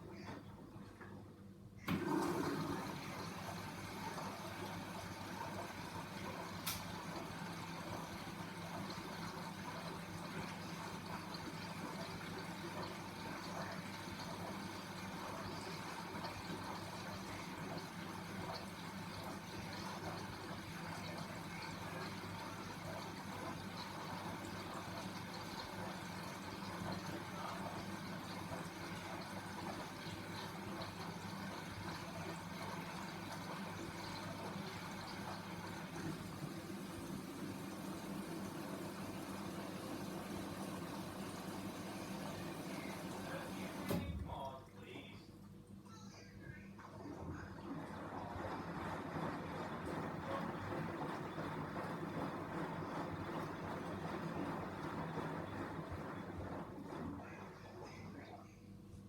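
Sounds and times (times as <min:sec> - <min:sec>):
washing machine low hum: 0:00.0 - 0:59.0
water rushing into drum: 0:01.9 - 0:44.6, 0:46.8 - 0:57.7.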